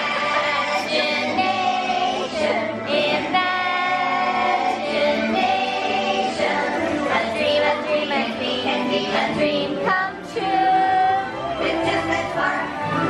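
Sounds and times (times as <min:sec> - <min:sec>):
choir singing long held notes: 0:00.0 - 0:13.0.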